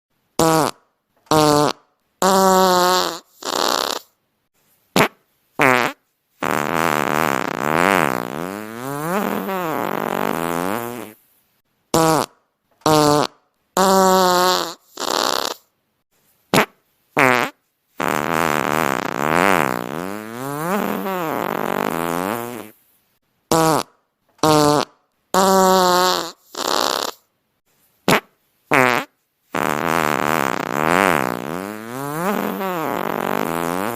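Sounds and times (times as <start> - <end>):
comedic fart noises: 0.4 - 4.2, 4.9 - 11.2, 11.9 - 15.7, 16.5 - 22.8, 23.5 - 27.3, 28.0 - 33.9.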